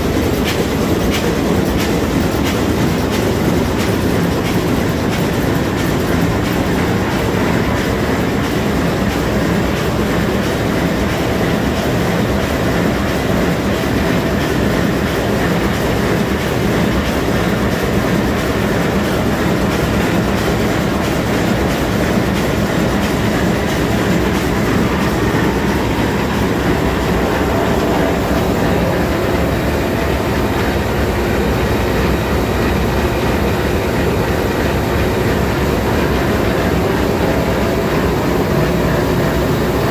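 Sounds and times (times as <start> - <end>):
marine diesel engine running: 0.0 - 39.9.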